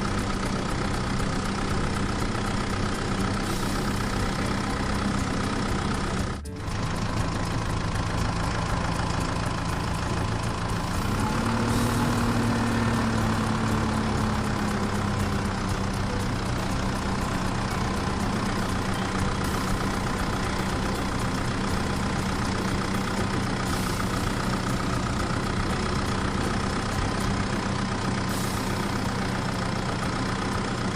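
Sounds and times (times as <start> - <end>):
truck engine running: 0.0 - 30.9.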